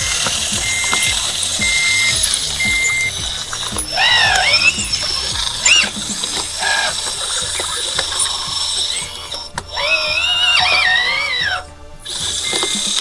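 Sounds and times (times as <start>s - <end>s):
hydraulic pump whining: 0.0s - 13.0s
mechanical clicking and ticking: 0.0s - 13.0s.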